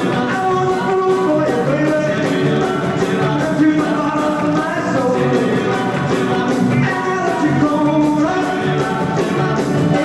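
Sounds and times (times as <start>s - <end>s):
person singing: 0.0s - 10.0s
rock and roll band playing: 0.0s - 10.0s.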